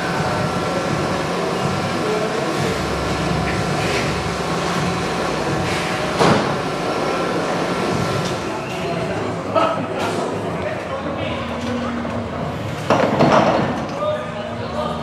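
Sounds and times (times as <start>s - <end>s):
machinery hum and rumble: 0.0s - 15.0s.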